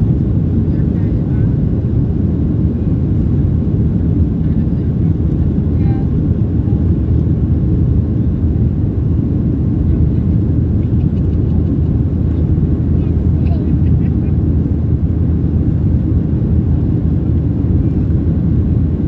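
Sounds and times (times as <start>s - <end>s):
airplane cabin roar: 0.0s - 19.0s.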